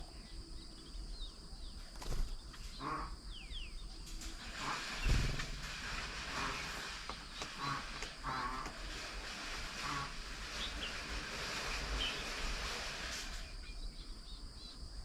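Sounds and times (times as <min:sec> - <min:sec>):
birds thin whistles: 0:00.0 - 0:14.8.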